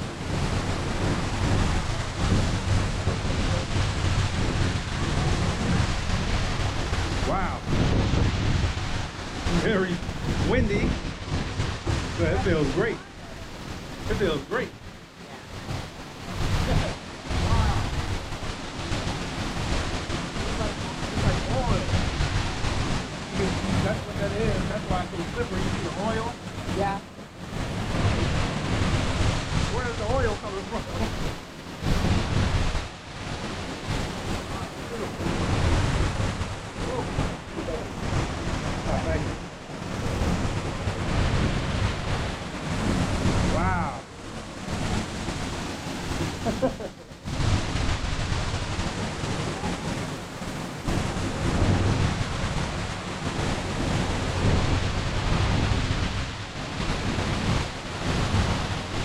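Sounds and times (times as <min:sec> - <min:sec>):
waterfall rushing: 0:00.0 - 0:59.0
wind buffeting microphone: 0:00.0 - 0:59.0.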